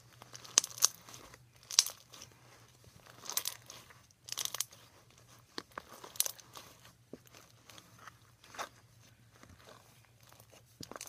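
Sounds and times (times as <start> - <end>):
foam bead slime crunching: 0.0 - 11.0.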